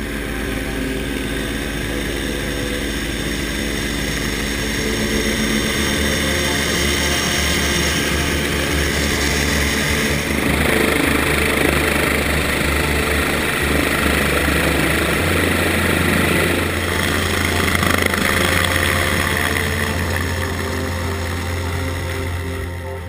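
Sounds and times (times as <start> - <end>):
helicopter rotor throbbing: 0.0 - 23.0.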